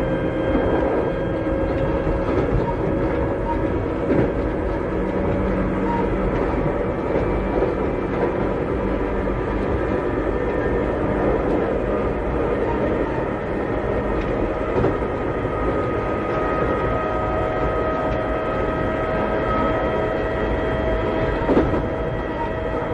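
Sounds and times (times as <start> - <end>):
rail joint clack: 0.0 - 22.9
train motor and gear hum: 0.0 - 22.9
wheel-on-rail noise: 0.0 - 22.9.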